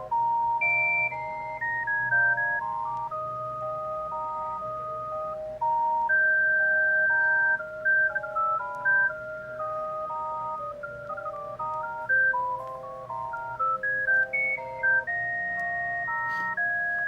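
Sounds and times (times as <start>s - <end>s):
mobile phone beeping ringtone: 0.0s - 17.0s.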